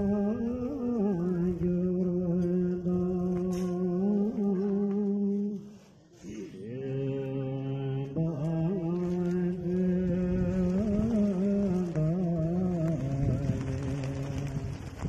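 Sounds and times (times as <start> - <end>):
man chanting: 0.0 - 14.9.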